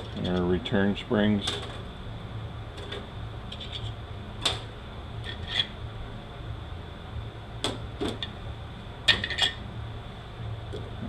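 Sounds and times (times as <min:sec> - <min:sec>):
low shop hum: 0:00.0 - 0:11.0.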